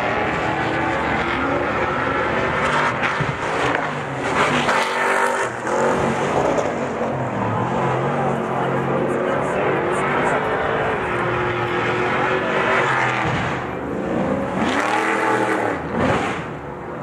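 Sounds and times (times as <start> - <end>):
racing engines revving: 0.0 - 17.0.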